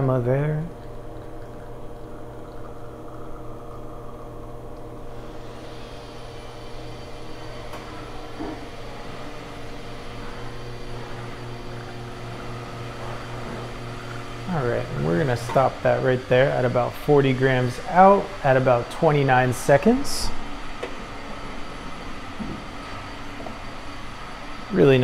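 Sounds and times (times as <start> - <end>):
espresso machine pump humming: 0.0 - 25.0.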